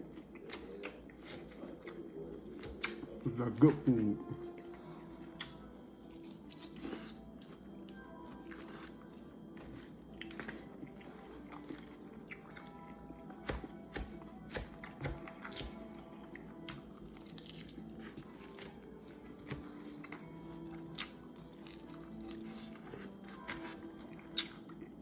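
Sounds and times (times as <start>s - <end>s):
person chewing crunchily: 0.0s - 25.0s
soft background music: 0.0s - 25.0s.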